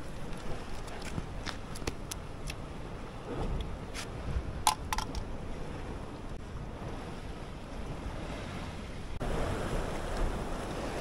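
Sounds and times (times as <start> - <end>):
sea noise: 0.0 - 11.0
wind buffeting microphone: 0.0 - 11.0.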